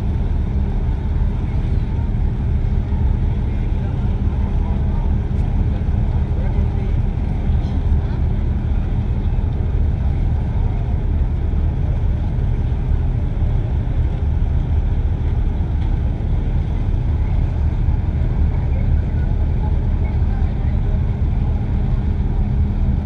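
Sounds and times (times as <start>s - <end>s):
ship engines droning: 0.0s - 23.0s.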